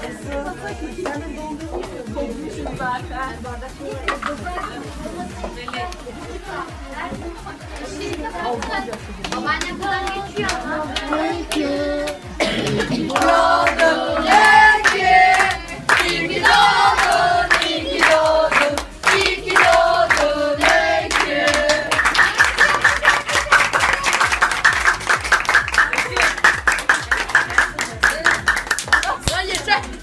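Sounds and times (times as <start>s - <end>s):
people clapping: 0.0s - 2.1s, 4.0s - 6.1s, 7.2s - 30.0s
group singing a celebration song: 0.0s - 25.6s.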